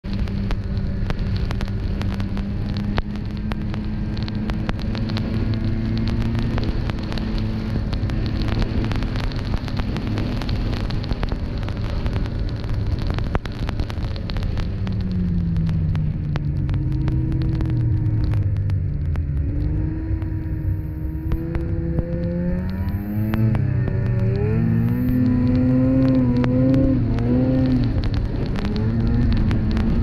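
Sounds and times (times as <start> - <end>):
snowmobile engine running: 0.1 - 30.0.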